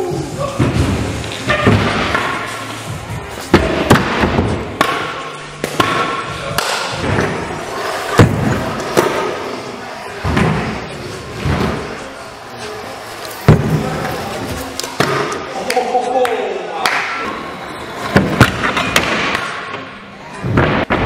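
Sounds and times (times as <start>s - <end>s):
background music: 0.0s - 20.3s.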